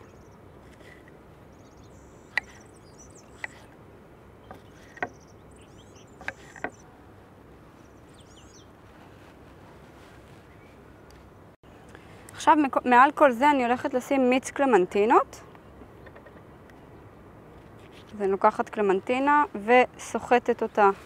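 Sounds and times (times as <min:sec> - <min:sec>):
birds chirping: 0:00.0 - 0:08.9, 0:10.4 - 0:12.1, 0:13.6 - 0:21.0.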